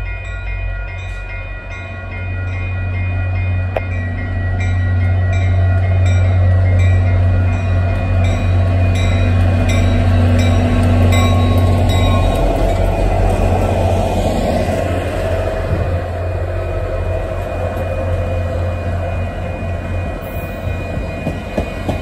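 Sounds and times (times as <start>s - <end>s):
crossing signal bells ringing: 0.0s - 15.3s, 16.1s - 22.0s
diesel locomotive engine drone: 0.0s - 22.0s
train wheel noise: 0.0s - 22.0s.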